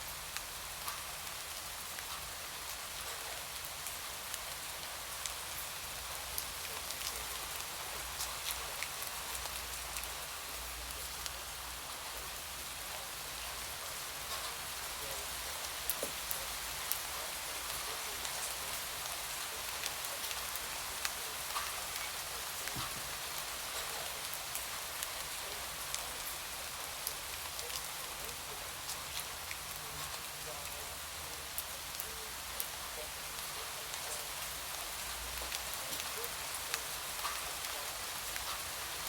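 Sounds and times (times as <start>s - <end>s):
raindrops ticking on a surface: 0.0s - 39.0s
steady rain hiss: 0.0s - 39.0s.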